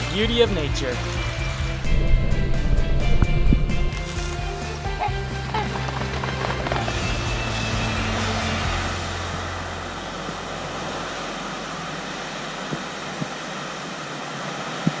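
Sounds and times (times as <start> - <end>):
geyser hissing steam and water: 0.0 - 15.0
low hum: 1.3 - 15.0.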